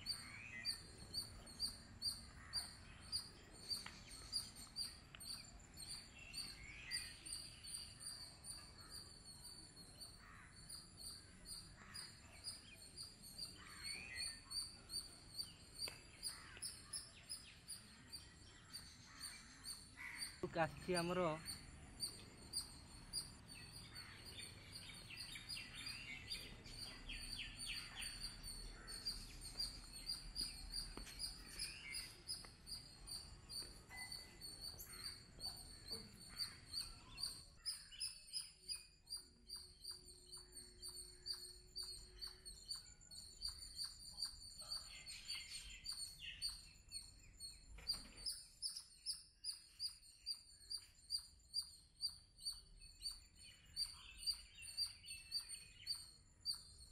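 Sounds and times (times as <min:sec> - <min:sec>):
faint birds chirping: 0:00.0 - 0:56.9.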